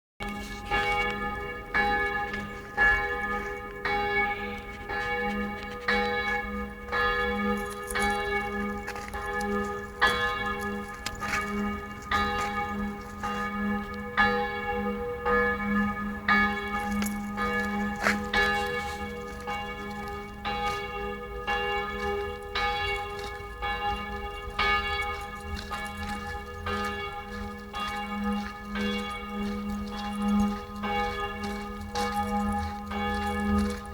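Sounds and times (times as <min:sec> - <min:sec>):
church bells ringing: 0:00.2 - 0:33.9.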